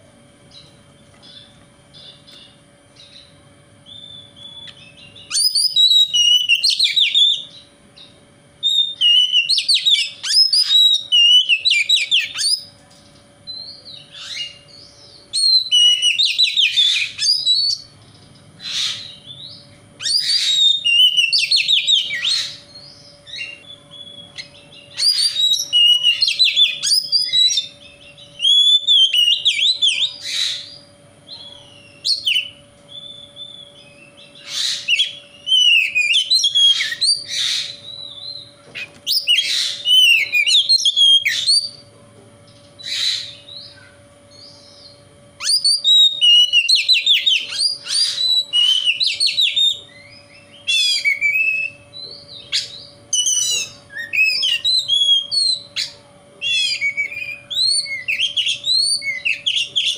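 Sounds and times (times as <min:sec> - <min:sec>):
faint steady hum: 0:00.0 - 0:59.9
bird whistles and chirps: 0:00.5 - 0:12.7, 0:13.5 - 0:17.9, 0:18.6 - 0:41.8, 0:42.8 - 0:59.9.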